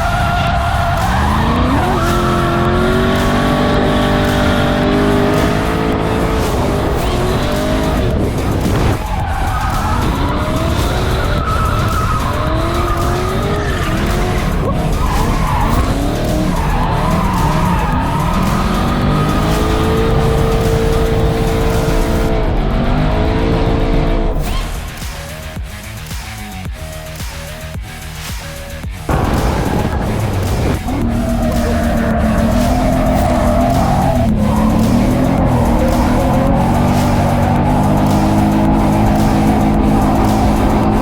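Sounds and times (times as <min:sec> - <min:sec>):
car engine revving hard: 0:00.0 - 0:25.4, 0:29.1 - 0:41.0
tyres skidding: 0:00.0 - 0:41.0.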